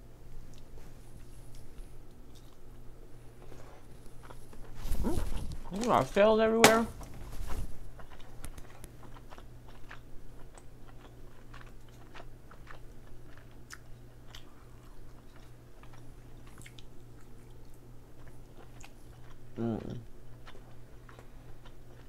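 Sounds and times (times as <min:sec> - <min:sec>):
person chewing: 0:00.5 - 0:06.2, 0:07.6 - 0:22.0.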